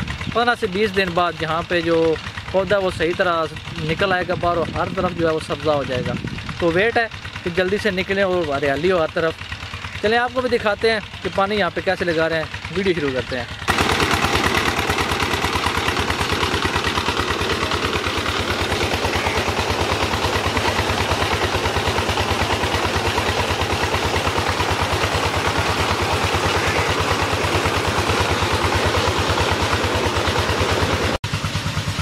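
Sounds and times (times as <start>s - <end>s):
diesel engine chugging: 0.0s - 32.0s
water gushing from pipe: 0.6s - 32.0s.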